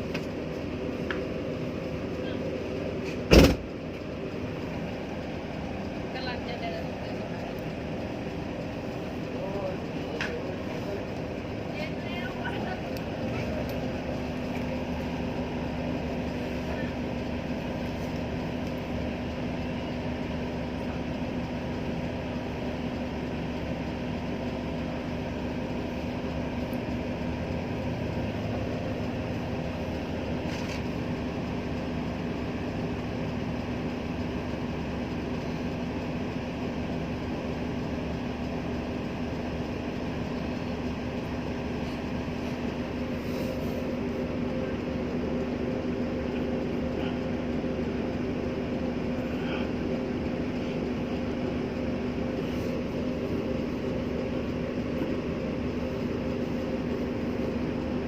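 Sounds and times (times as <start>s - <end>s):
road or rail noise: 0.0s - 58.0s
vehicle engine droning: 0.0s - 58.0s.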